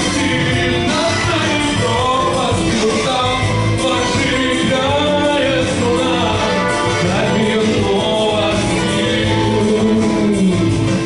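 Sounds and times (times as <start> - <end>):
backing track through speakers: 0.0 - 11.0
man singing into a microphone: 0.0 - 11.0.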